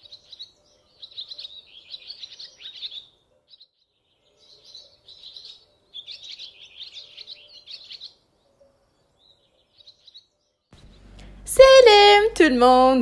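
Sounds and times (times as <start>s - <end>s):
small birds chirping: 0.0s - 11.5s.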